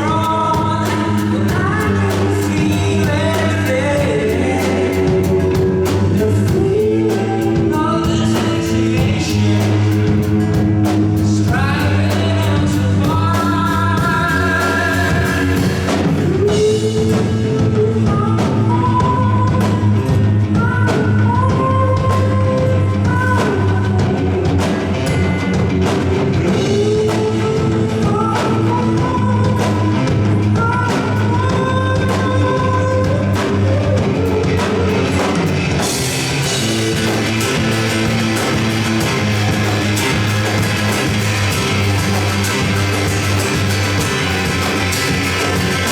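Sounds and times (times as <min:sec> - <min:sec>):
person singing: 0:00.0 - 0:10.3, 0:11.2 - 0:25.6, 0:26.2 - 0:45.9
bass guitar: 0:00.0 - 0:45.9
drum kit: 0:00.0 - 0:45.9
electric guitar: 0:00.0 - 0:45.9.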